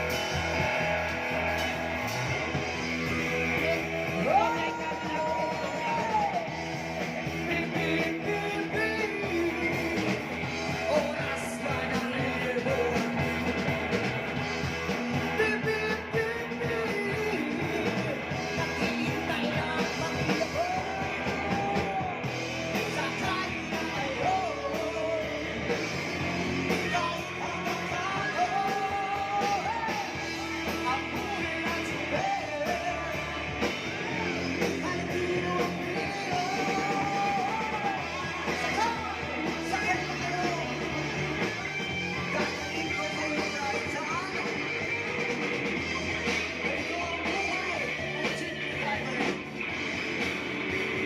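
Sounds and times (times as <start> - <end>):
lead singer singing: 0.0 - 49.9
electric guitar: 0.0 - 51.0
rock band playing: 0.0 - 51.0.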